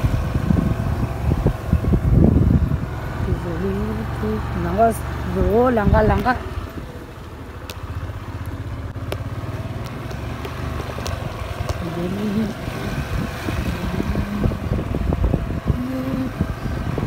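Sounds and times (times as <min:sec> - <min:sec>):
rushing wind noise: 0:00.0 - 0:07.1, 0:09.4 - 0:17.0
motorbike engine running: 0:00.0 - 0:17.0.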